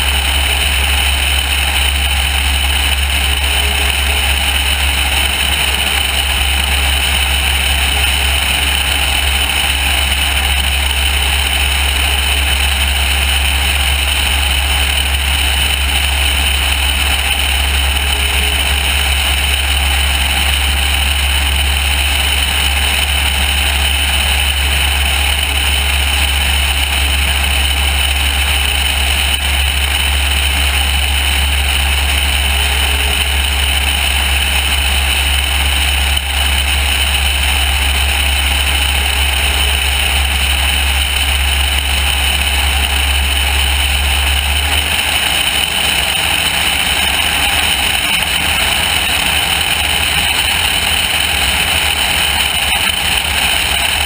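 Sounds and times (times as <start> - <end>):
airplane engine drone: 0.0 - 54.0.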